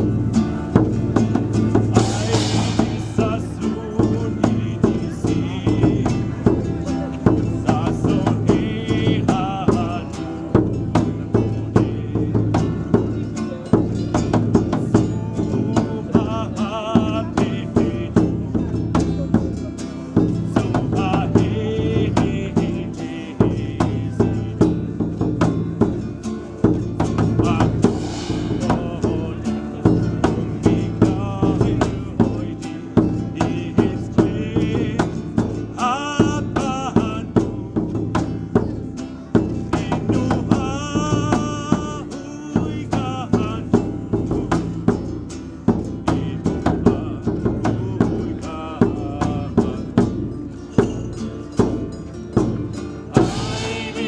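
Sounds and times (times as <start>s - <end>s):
person singing: 0.0s - 25.4s, 27.1s - 50.7s, 53.1s - 54.0s
acoustic guitar: 0.0s - 54.0s
frame drum beat: 0.0s - 54.0s.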